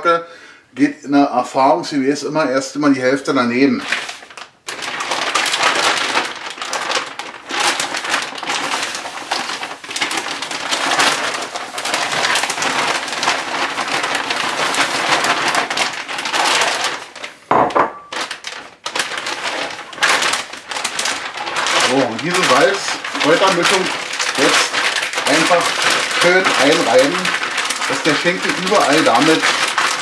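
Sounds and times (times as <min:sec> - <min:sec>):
plastic bag crinkling: 0:03.6 - 0:30.0
granular mix pouring: 0:03.8 - 0:17.5, 0:18.1 - 0:30.0.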